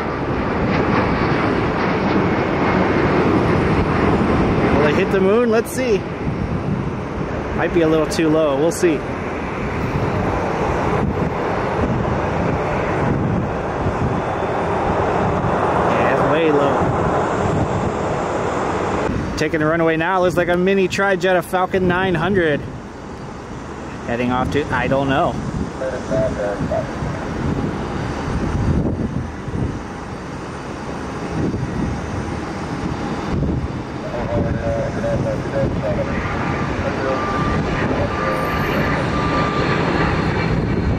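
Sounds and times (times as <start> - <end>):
wind buffeting microphone: 0.0 - 20.6, 21.6 - 40.9
jet engine roar: 0.0 - 40.9.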